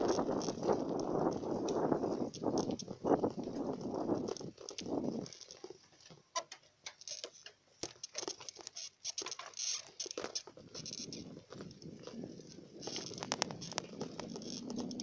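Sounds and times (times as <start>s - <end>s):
bicycle clicking and rattling: 0.0s - 15.0s.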